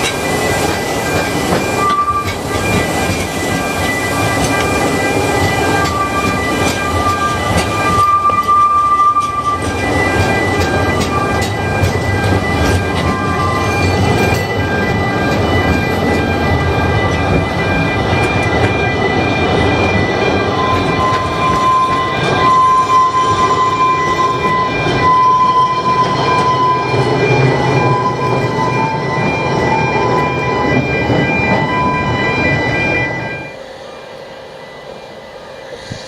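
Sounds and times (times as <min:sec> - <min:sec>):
steady high-pitched tone: 0:00.0 - 0:36.0
train rumbling along track: 0:00.0 - 0:36.0.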